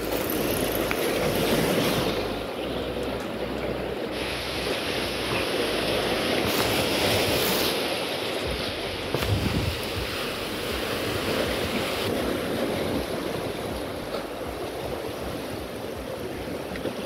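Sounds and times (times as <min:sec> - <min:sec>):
waves breaking against concrete: 0:00.0 - 0:17.0
wind buffeting microphone: 0:00.0 - 0:17.0.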